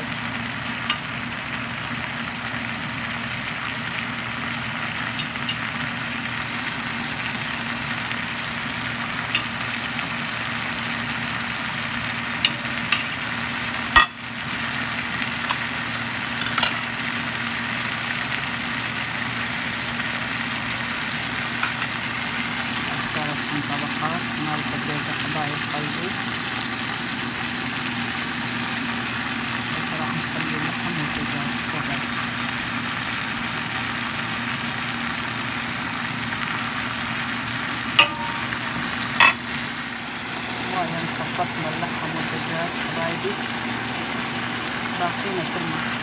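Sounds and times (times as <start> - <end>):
food sizzling in a pot: 0.0 - 46.0.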